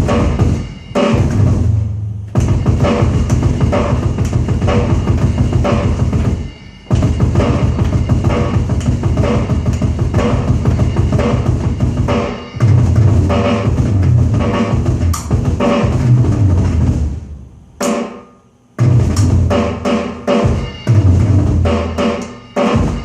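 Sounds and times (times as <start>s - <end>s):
electronic drum beat: 0.0s - 23.0s.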